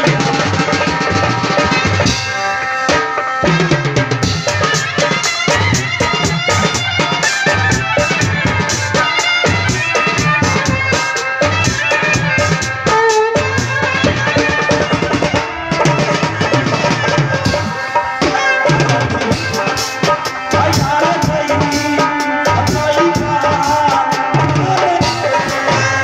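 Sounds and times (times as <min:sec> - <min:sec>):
fast hand-drum beat: 0:00.0 - 0:02.4, 0:03.5 - 0:26.0
held melody line: 0:00.0 - 0:26.0.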